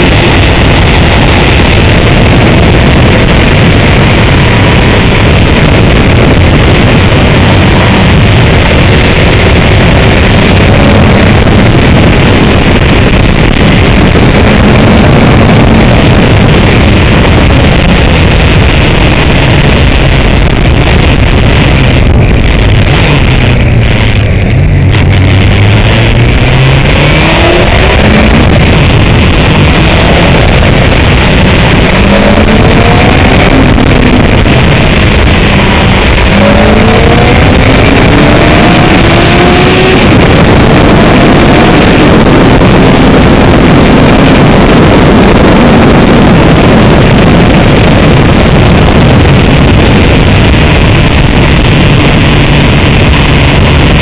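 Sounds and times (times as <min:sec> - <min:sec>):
heavy wind noise: 0:00.0 - 0:54.0
motorcycle engine accelerating: 0:00.0 - 0:54.0.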